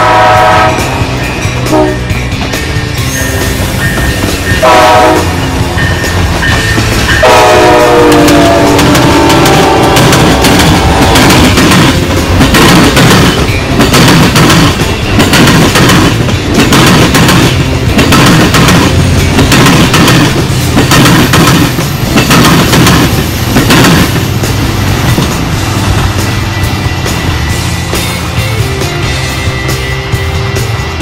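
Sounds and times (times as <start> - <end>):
train cars rumbling past: 0.0 - 31.0
wheels clacking over rail joints: 0.9 - 29.8.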